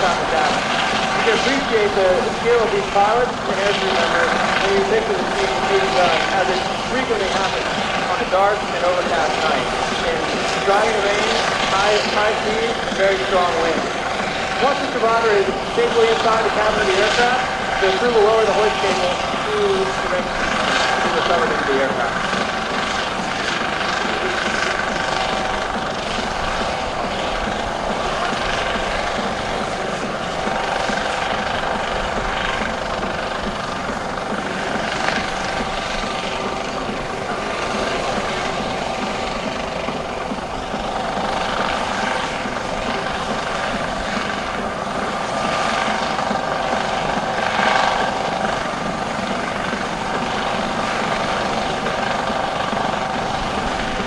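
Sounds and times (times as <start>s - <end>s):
helicopter turbine whine: 0.0s - 54.0s
main rotor wash: 0.0s - 54.0s.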